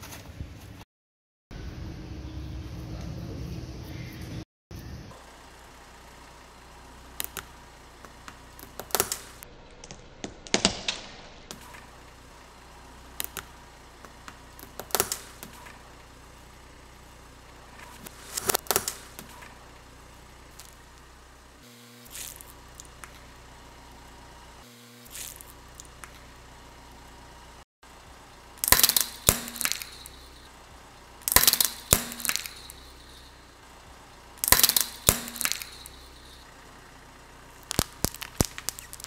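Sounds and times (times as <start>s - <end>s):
low engine hum: 1.6s - 10.5s, 11.4s - 39.0s
balls bursting with sharp pops: 5.1s - 26.6s, 27.9s - 39.0s.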